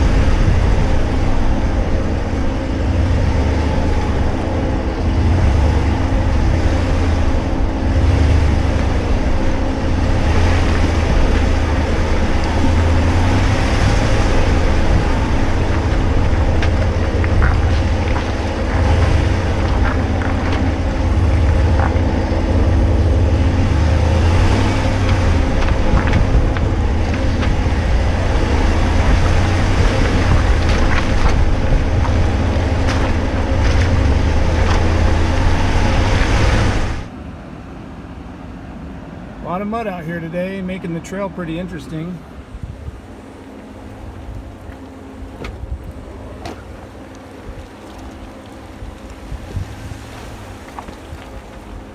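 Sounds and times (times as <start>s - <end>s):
pickup engine rumble with road noise: 0.0s - 51.9s.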